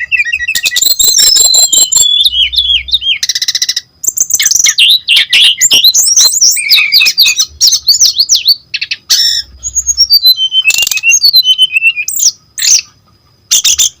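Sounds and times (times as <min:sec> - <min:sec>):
flycatcher singing whistled song: 0:00.0 - 0:14.0.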